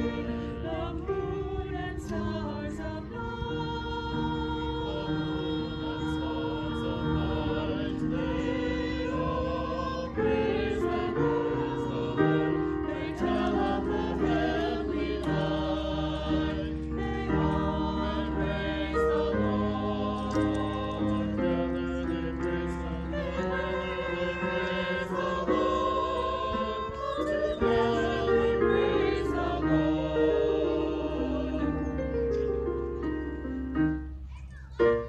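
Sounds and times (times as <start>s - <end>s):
church choir singing: 0.0s - 33.8s.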